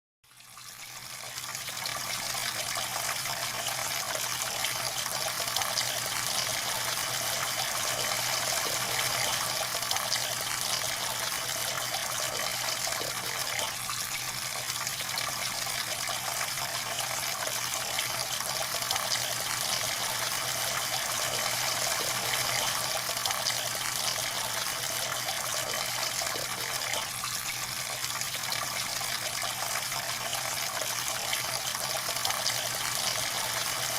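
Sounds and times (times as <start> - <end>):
water jet pouring and splashing: 0.4 - 33.9.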